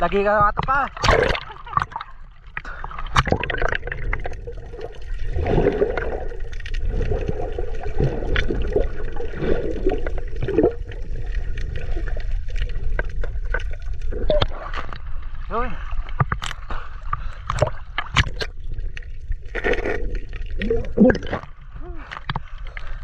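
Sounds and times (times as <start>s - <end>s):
bubbling: 0.0s - 23.0s
underwater rumble: 0.9s - 23.0s.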